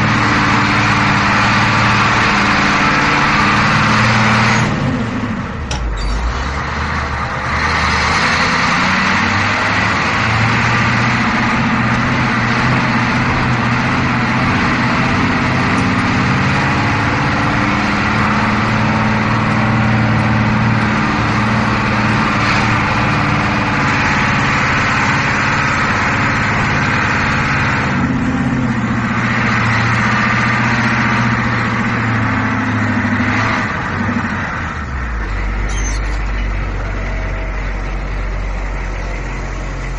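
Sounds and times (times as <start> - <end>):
bus engine droning: 0.0 - 39.9
road noise: 0.0 - 39.9.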